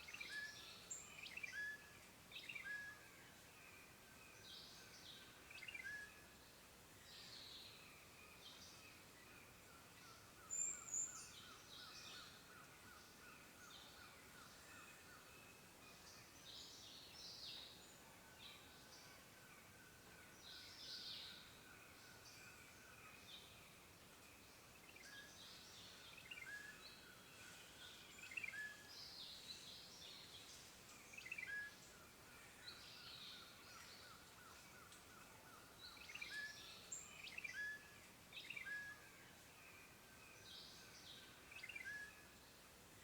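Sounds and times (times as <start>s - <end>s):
soft steady hiss: 0.0s - 43.0s.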